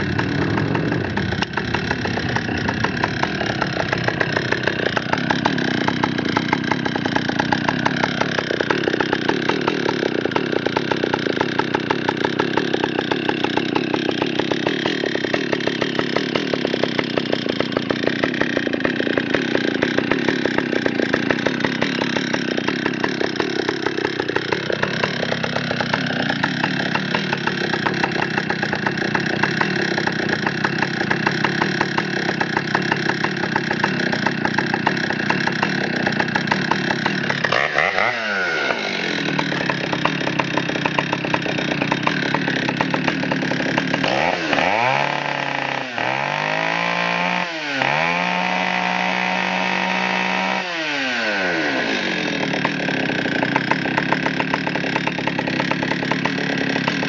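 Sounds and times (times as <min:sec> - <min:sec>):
chainsaw cutting a log: 0:00.0 - 0:57.0.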